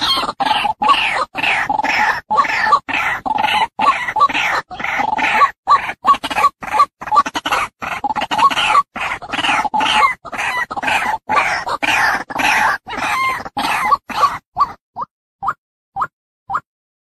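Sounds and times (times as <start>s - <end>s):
waterhen rough calls: 0.0s - 14.8s.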